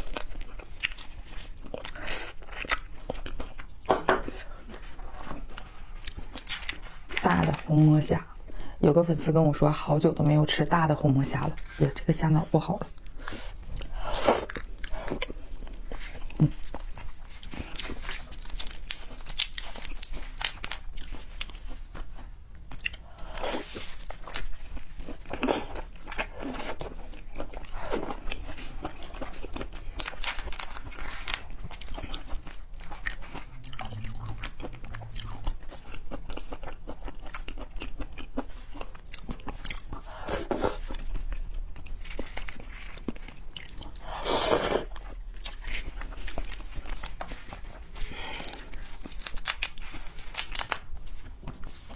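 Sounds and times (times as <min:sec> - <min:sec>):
crunchy chewing: 0:00.0 - 0:07.7, 0:13.0 - 0:51.9.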